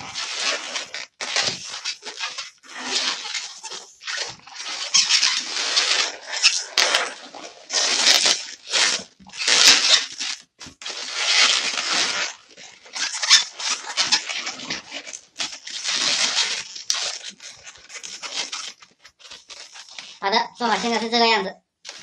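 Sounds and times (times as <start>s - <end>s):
balloons squeaking and rubbing: 0.0s - 22.0s.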